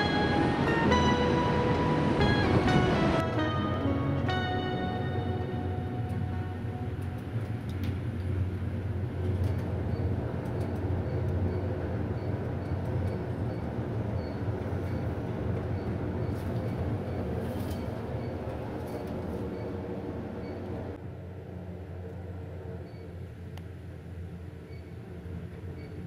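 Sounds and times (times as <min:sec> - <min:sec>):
elevator rumble and rushing: 0:00.0 - 0:23.4.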